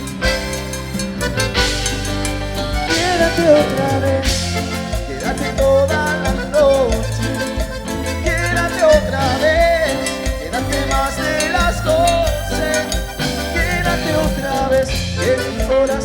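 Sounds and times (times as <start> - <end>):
bass and drum beat: 0.0 - 16.0
melodic lead line: 0.0 - 16.0.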